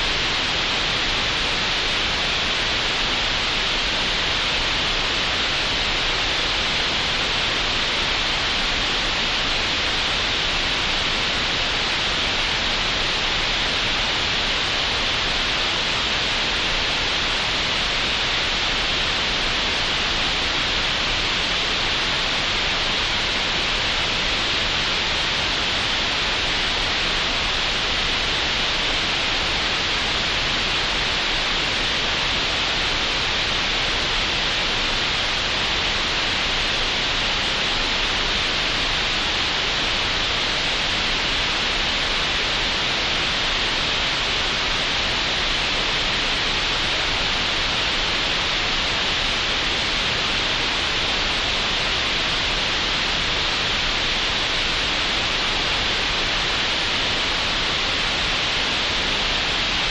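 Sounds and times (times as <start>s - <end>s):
steady green noise hiss: 0.0s - 59.9s.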